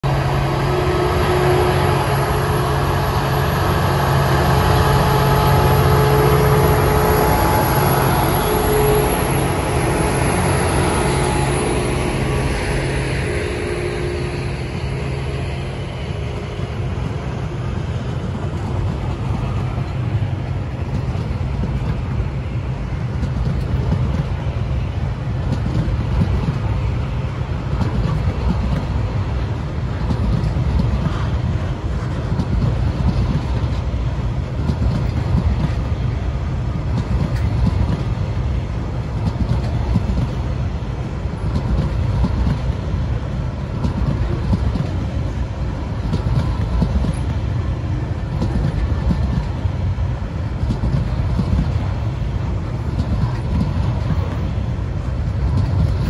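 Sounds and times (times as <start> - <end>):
diesel locomotive engines droning: 0.0 - 56.0
wagon wheels rumbling on rails: 0.0 - 56.0.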